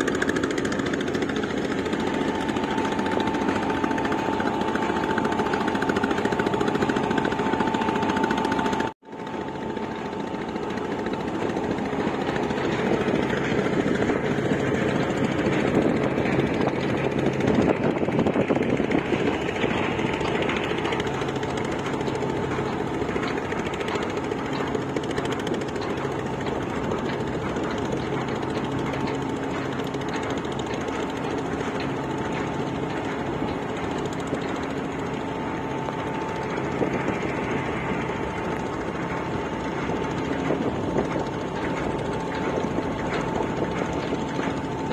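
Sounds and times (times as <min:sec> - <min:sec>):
dredger engine running: 0:00.0 - 0:44.9
fast dense rattle: 0:00.0 - 0:44.9
steady whine: 0:00.0 - 0:44.9.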